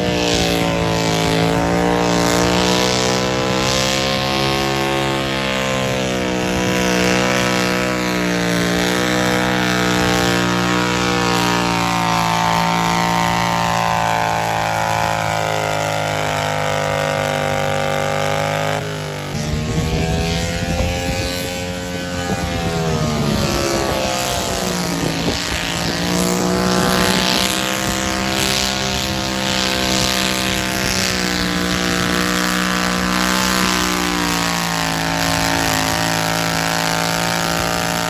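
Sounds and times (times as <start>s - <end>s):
tractor engine running hard: 0.0s - 38.0s.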